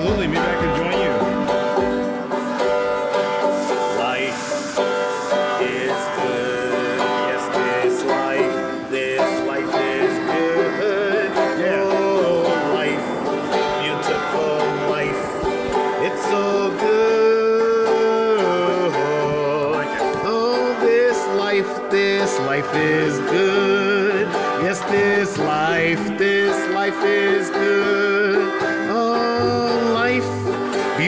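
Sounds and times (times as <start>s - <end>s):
man singing: 0.0s - 1.8s, 3.7s - 31.0s
acoustic guitar strumming: 0.0s - 31.0s
banjo strumming: 0.0s - 31.0s.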